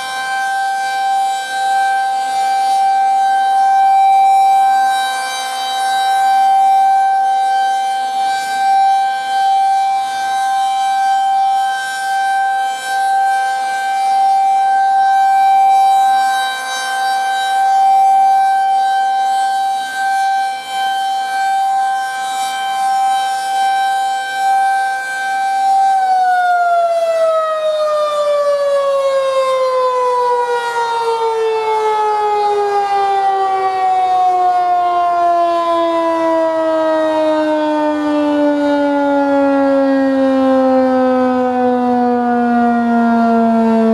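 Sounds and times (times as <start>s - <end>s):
warning siren winding down: 0.0s - 43.9s.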